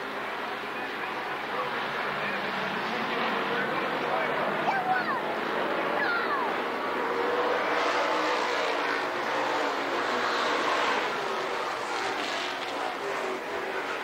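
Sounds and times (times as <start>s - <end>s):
stock car engines racing: 0.0s - 14.0s.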